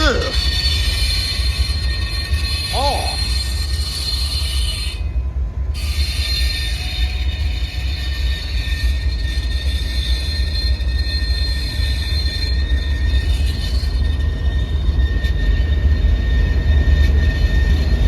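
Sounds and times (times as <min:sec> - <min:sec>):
freight train rumbling past: 0:00.0 - 0:18.0
high-pitched wheel squeal: 0:00.0 - 0:18.0.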